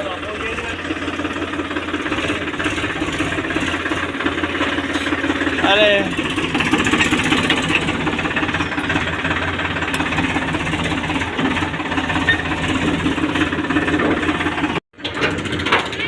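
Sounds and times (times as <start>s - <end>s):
tractor diesel engine clattering: 0.0s - 16.0s.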